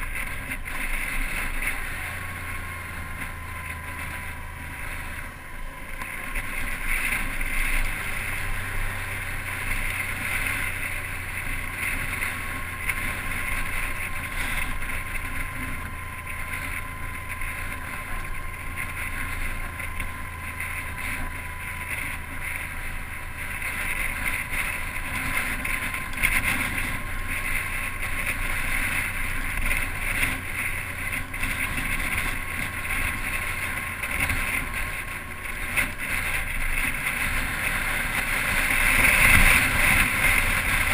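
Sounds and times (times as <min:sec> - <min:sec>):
motorcycle engine humming: 0:00.0 - 0:40.9.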